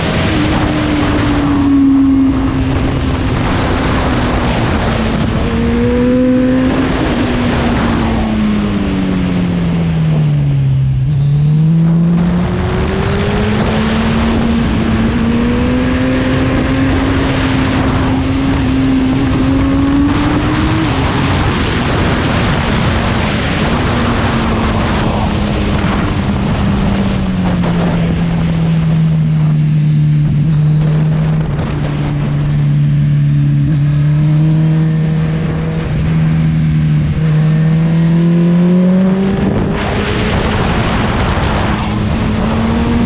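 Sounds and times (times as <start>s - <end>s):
loud rushing noise: 0.0s - 43.0s
motorcycle engine running: 0.0s - 43.0s.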